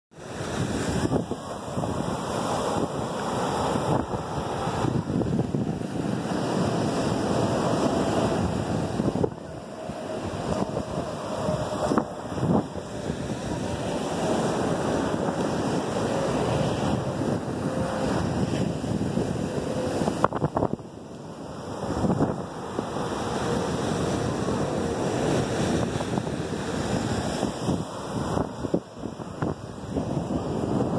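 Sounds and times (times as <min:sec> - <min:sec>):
ocean waves breaking on beach: 0:00.1 - 0:30.9
wind buffeting microphone: 0:00.2 - 0:30.9.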